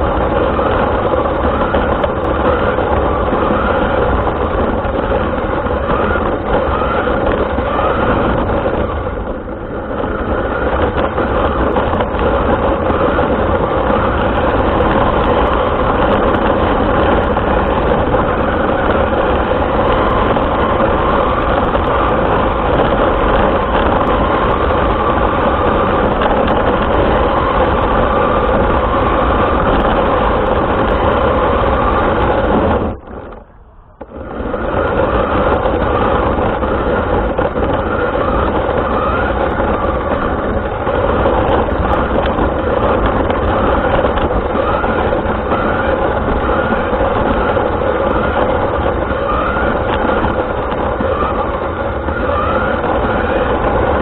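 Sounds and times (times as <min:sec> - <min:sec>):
rc car drivetrain noise: 0:00.0 - 0:54.0.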